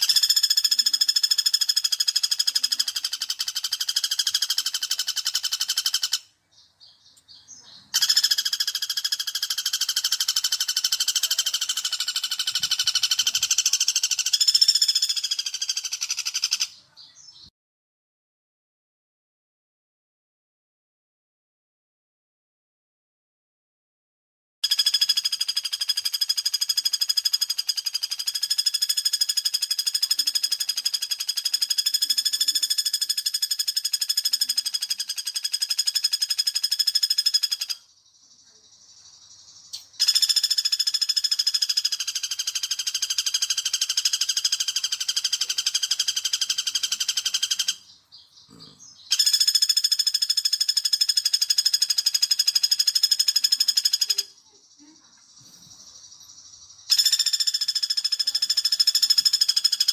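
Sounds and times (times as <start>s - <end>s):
woodpecker rattling trill: 0.0s - 17.4s, 24.6s - 59.9s.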